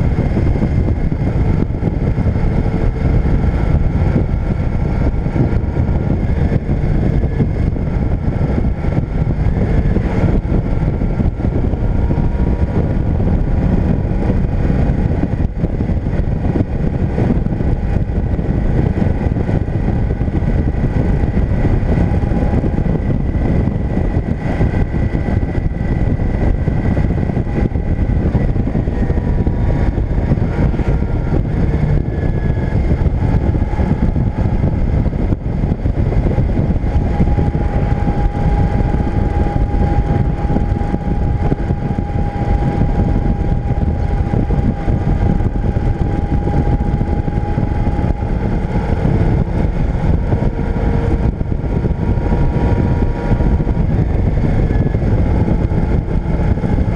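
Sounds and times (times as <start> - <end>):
motorcycle engine tone: 0.0 - 56.9
wind and road noise: 0.0 - 56.9.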